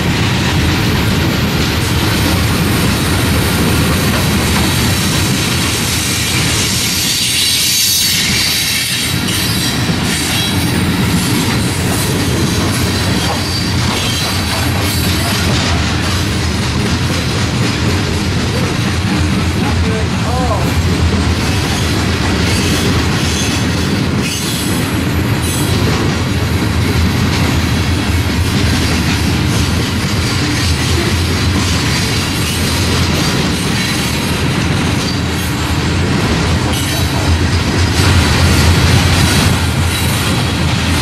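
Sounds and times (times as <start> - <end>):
freight train rolling past: 0.0 - 41.0
train wheel clicks: 0.0 - 41.0.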